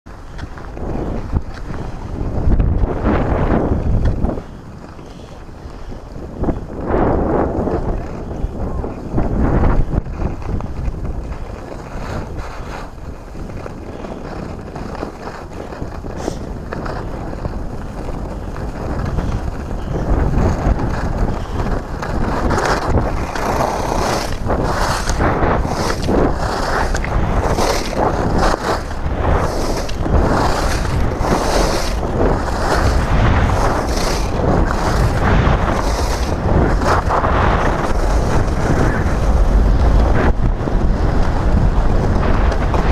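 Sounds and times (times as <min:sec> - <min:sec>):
skis scraping on snow: 0:00.1 - 0:42.9
wind buffeting microphone: 0:00.1 - 0:42.9.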